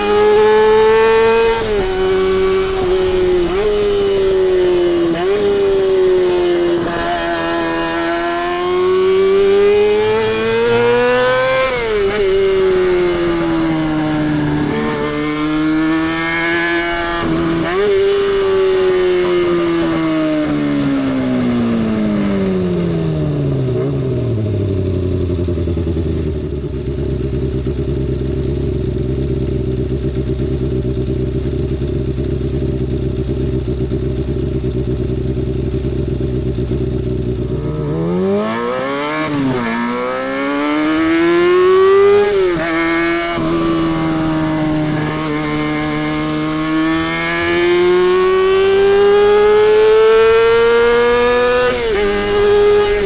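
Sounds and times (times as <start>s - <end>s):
motorcycle engine idling and revving: 0.0s - 53.0s.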